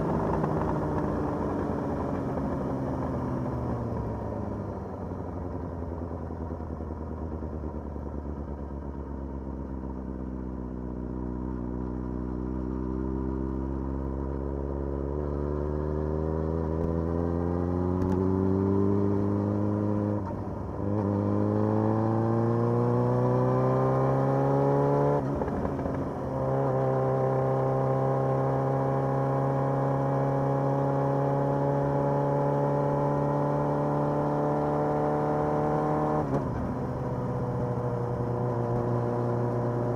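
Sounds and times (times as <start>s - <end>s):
motorcycle engine accelerating: 0.0s - 7.6s, 11.5s - 39.9s.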